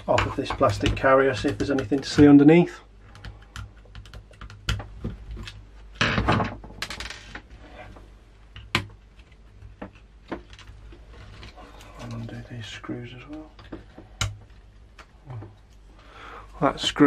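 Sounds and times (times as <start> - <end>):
small clicks taps and scrapes: 0.0 - 6.5, 7.1 - 12.4, 13.2 - 15.8.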